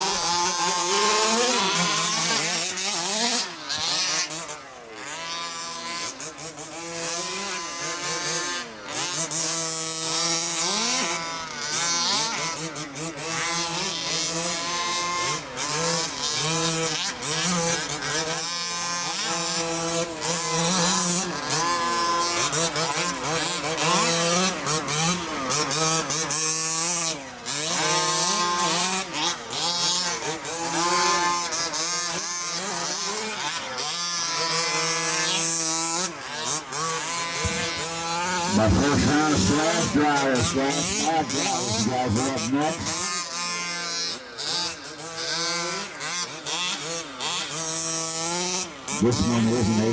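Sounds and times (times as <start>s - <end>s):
model truck engines revving: 0.0s - 49.9s.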